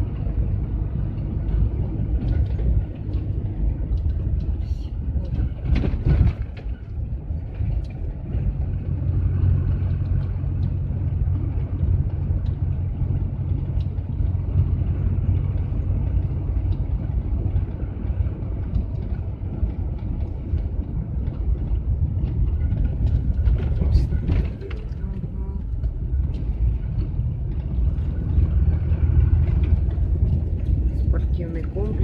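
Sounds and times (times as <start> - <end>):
low engine drone: 0.0 - 32.0
road and tyre noise: 0.0 - 32.0.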